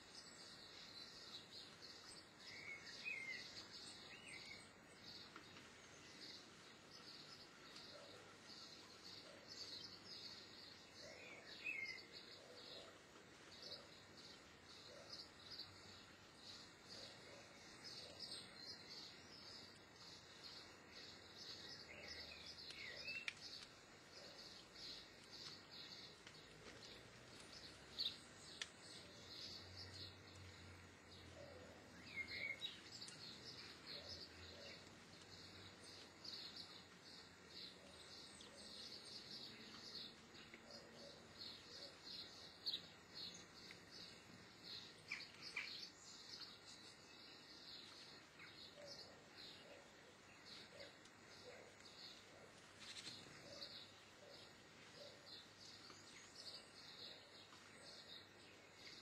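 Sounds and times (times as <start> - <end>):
light background hiss: 0.0 - 59.0.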